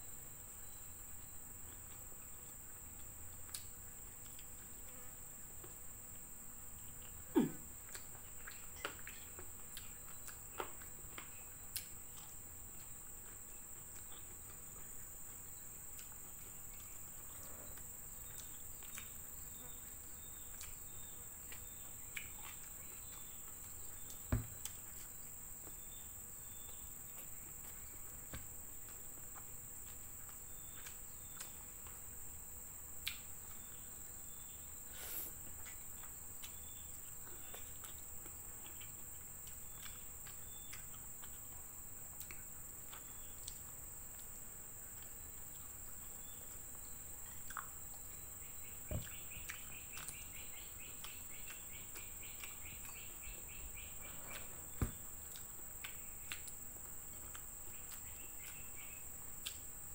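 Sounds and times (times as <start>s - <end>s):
insect chirring: 0.0s - 59.9s
chewing clicks and smacks: 1.6s - 5.8s, 7.8s - 32.2s, 33.0s - 34.4s, 35.4s - 59.9s.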